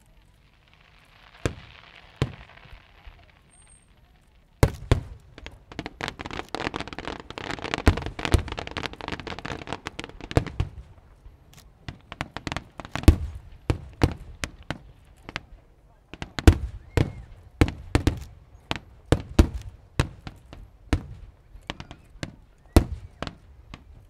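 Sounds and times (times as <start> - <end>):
rapid crackling fireworks: 0.0 - 24.0
soft hiss: 0.0 - 24.0
fireworks bangs: 0.4 - 24.0.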